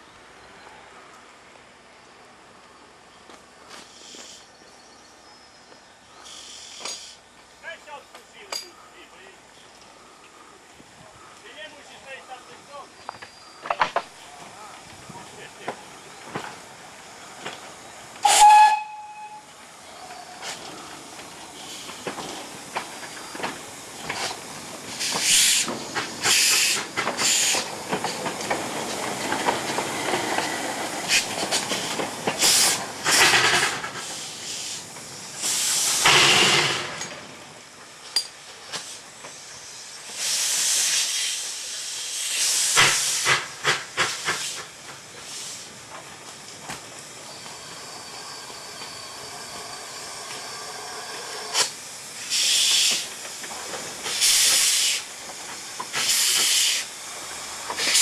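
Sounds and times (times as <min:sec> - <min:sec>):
steady low steam hiss: 0:00.0 - 0:58.0
steam locomotive hissing bursts: 0:03.7 - 0:04.5, 0:06.0 - 0:58.0.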